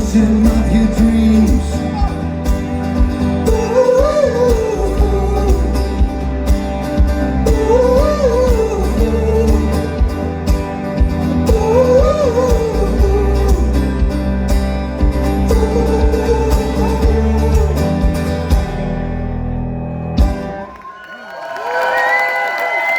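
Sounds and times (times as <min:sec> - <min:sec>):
steady drum beat: 0:00.0 - 0:18.9
wordless sung melody: 0:00.0 - 0:20.2
guitars: 0:00.0 - 0:20.8.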